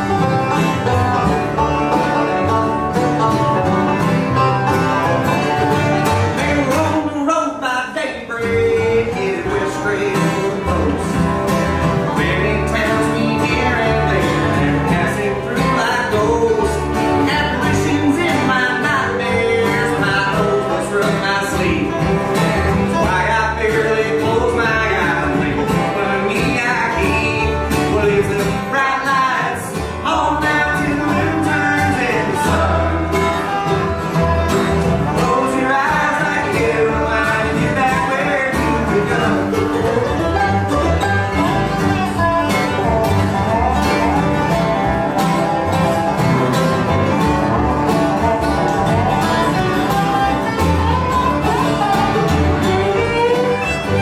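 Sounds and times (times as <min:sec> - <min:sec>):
bluegrass band playing: 0:00.0 - 0:54.0.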